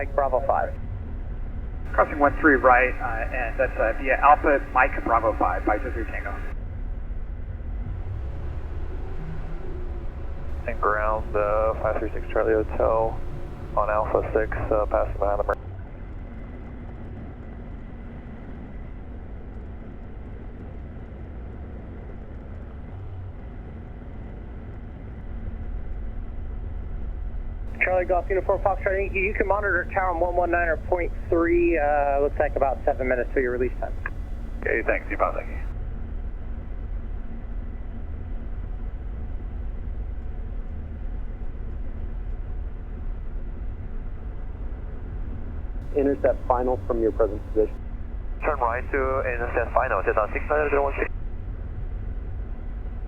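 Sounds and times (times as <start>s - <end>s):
faint steady hum: 0.0s - 53.0s
light aircraft engine drone: 0.0s - 53.0s.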